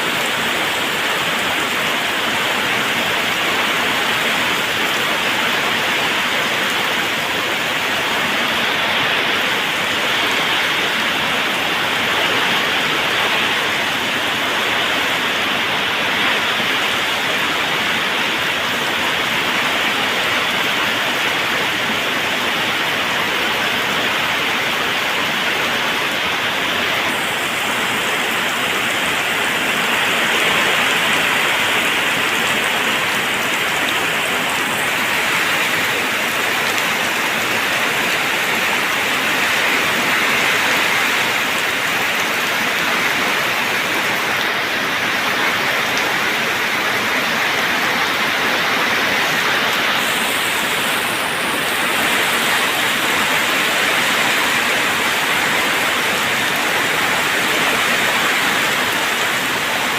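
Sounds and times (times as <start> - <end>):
waterfall rushing and splashing: 0.0 - 59.9.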